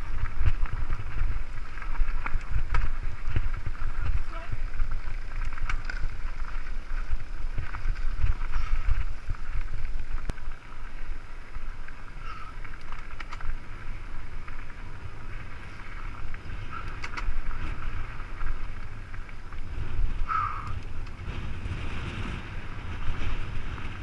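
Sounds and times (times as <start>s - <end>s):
bike rattling over ground: 0.0s - 24.0s
wind buffeting microphone: 0.0s - 24.0s.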